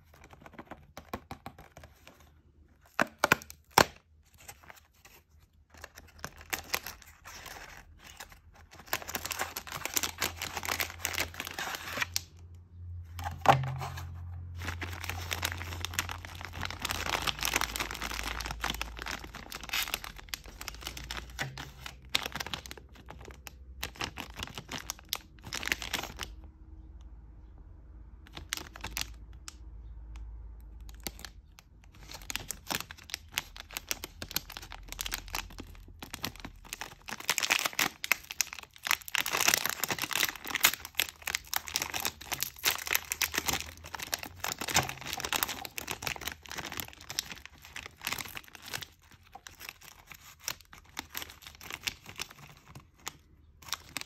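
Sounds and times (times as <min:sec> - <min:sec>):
plastic pouch crinkling and tearing: 0:00.0 - 0:26.5, 0:28.3 - 0:29.6, 0:30.6 - 0:54.0.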